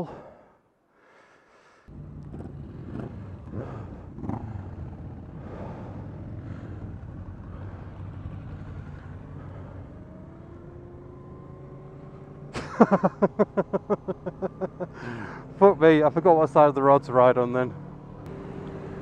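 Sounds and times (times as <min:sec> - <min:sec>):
motorcycle engine running: 0:01.9 - 0:19.0.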